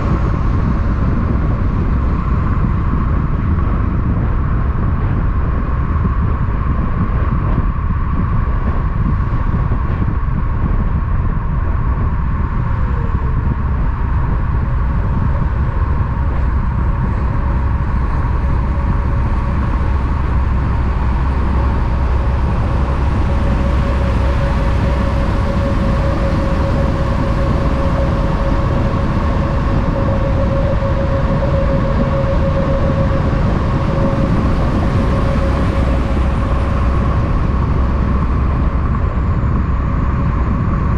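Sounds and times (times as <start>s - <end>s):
vehicle rumble with steady hum: 0.0s - 40.9s.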